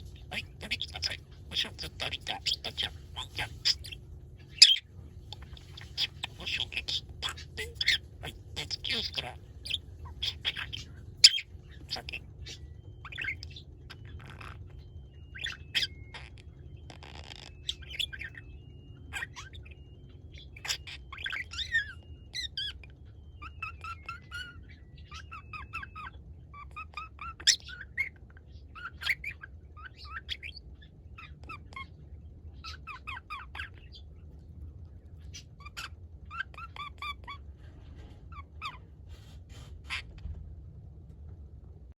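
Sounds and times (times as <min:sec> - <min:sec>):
budgerigar chirping and squawking: 0:00.0 - 0:34.4, 0:35.2 - 0:40.4
steady low hum: 0:00.0 - 0:41.9.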